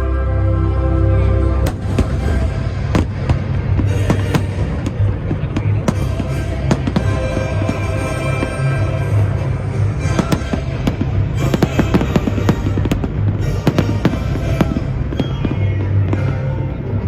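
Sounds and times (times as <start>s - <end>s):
music from sound system: 0.0s - 17.0s
fireworks bursting and crackling: 1.7s - 17.0s.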